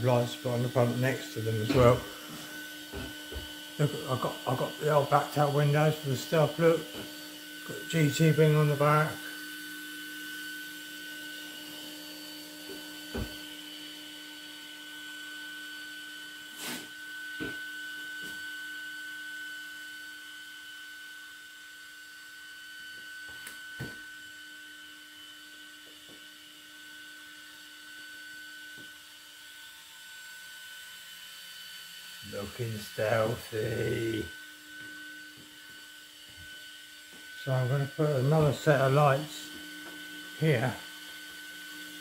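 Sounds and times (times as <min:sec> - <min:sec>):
low electrical hum with whine: 0:00.0 - 0:42.0.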